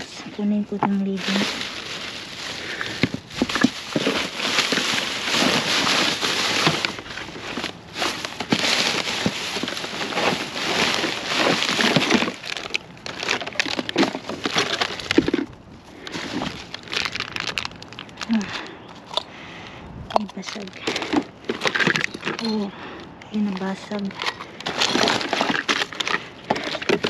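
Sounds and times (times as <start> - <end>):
plastic bags crinkling: 0.0 - 19.3, 20.2 - 27.0
plastic containers clattering: 0.0 - 19.3, 20.1 - 27.0.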